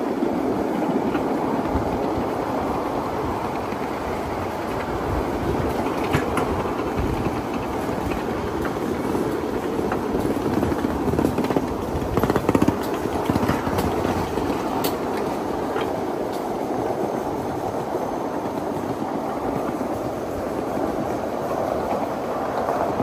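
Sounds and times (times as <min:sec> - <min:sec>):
model train rumbling on track: 0:00.0 - 0:23.0
wheels clicking over rail joints: 0:00.0 - 0:23.0.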